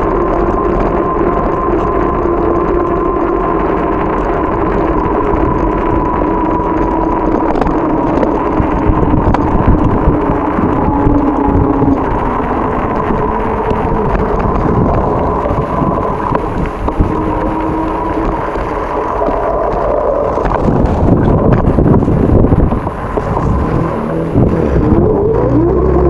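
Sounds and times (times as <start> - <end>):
steady hum: 0.0 - 26.0
wind rumbling on microphone: 0.0 - 26.0.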